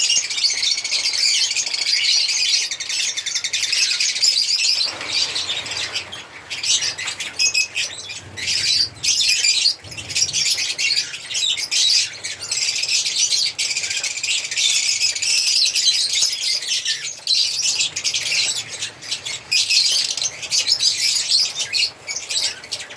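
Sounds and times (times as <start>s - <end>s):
lovebirds chirping: 0.0s - 22.9s.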